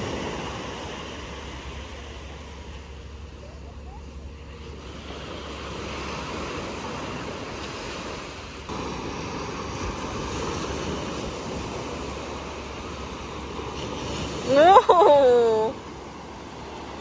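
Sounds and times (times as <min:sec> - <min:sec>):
waves washing up a sandy beach: 0:00.0 - 0:17.0.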